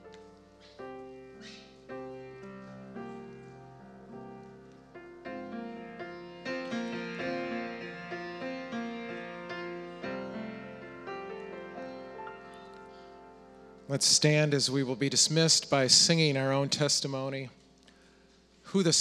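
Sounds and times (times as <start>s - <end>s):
gentle piano tune: 0.0s - 17.7s.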